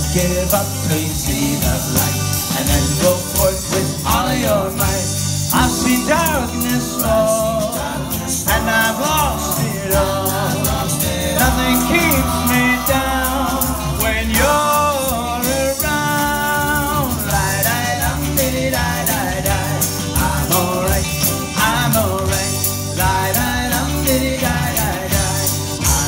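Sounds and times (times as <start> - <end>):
music with steady drum beat: 0.0 - 26.0.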